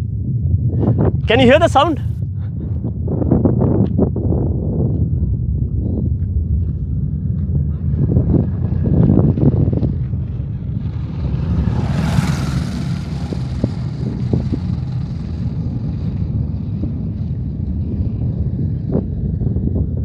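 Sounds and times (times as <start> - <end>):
distant rocket launch rumble: 0.0 - 20.0
wind buffeting microphone: 0.0 - 20.0.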